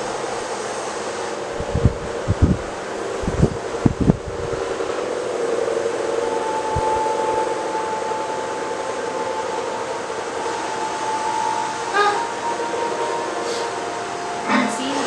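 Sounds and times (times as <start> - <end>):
steady rushing drone: 0.0 - 15.0
held high tone: 1.6 - 15.0.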